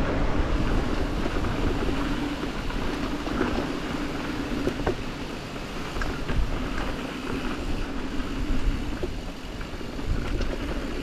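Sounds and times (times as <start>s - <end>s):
bike tyres rolling on dirt: 0.0s - 11.0s
wind rumble on microphone: 0.0s - 11.0s
bike chain and frame clicking: 0.6s - 11.0s.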